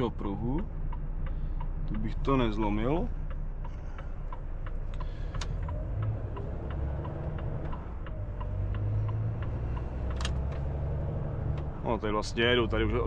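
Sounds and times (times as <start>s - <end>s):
diesel engine rumble: 0.0s - 13.0s
road noise: 0.0s - 13.0s
turn signal ticking: 0.0s - 13.0s.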